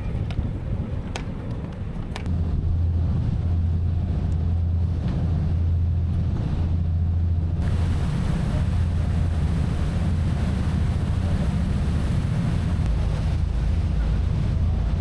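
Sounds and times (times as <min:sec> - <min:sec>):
ferry engine drone: 0:00.0 - 0:15.0
wind on microphone: 0:00.0 - 0:15.0
sea wash: 0:02.4 - 0:15.0.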